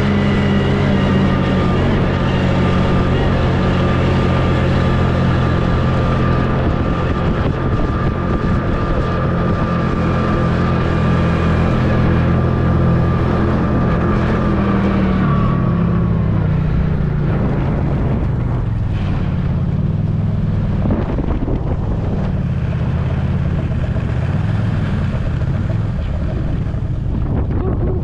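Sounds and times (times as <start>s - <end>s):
snowmobile engine running: 0.0s - 28.0s
wind buffeting microphone: 0.0s - 28.0s.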